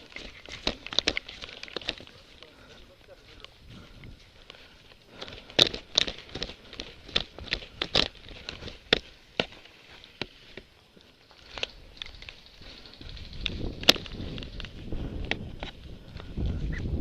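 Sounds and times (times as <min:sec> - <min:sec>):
crackling snaps: 0:00.0 - 0:17.0.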